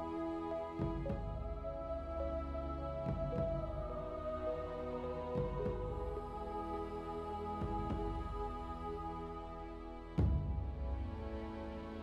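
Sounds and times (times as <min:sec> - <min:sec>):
soft beats: 0:00.8 - 0:04.6, 0:05.3 - 0:12.0.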